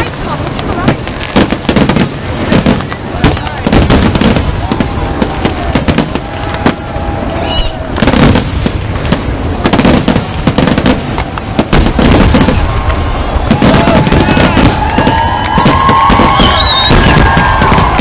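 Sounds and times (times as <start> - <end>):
fireworks shells bursting: 0.9 - 18.0.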